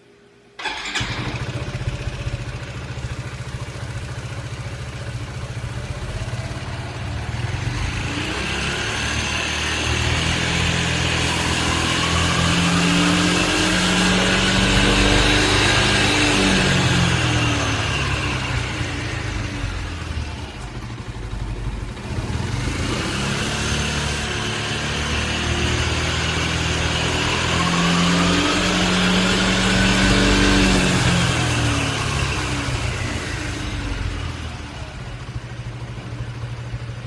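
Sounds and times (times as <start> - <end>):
engine whine: 0.6 - 37.0
scooter engine revving: 0.6 - 37.0.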